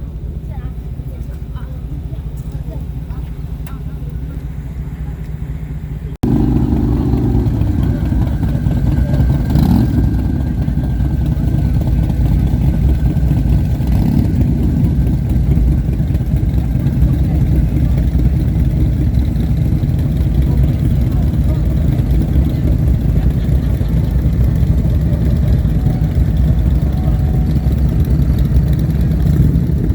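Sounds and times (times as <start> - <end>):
motorcycle engine rumbling: 0.0 - 29.9.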